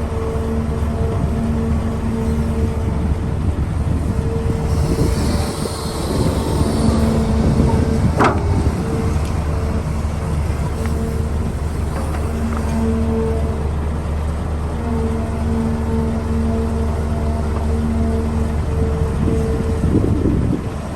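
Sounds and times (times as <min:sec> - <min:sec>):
diesel machinery rumbling: 0:00.0 - 0:20.9.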